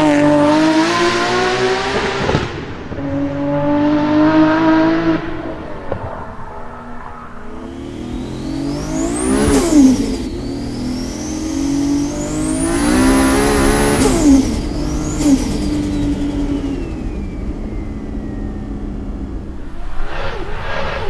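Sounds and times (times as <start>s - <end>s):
car engine revving hard: 0.0s - 17.8s.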